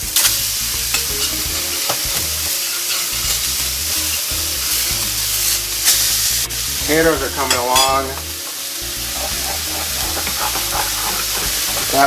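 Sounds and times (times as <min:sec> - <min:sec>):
burger patties sizzling in pan: 0:00.0 - 0:12.0.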